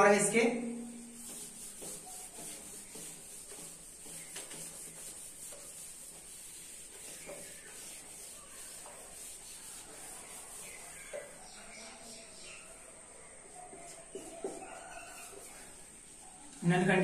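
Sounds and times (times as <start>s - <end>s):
cloth wiping a whiteboard: 0.0s - 17.0s.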